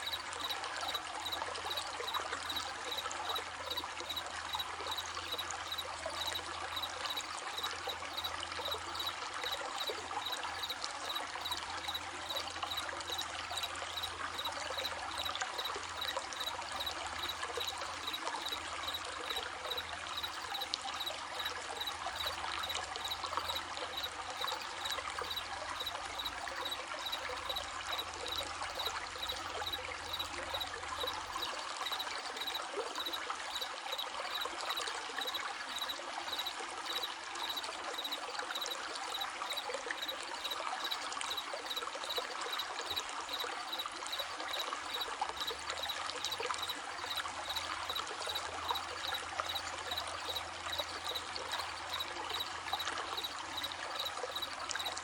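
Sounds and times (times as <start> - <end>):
crickets chirping: 0.0 - 55.0
stream trickling: 0.0 - 55.0.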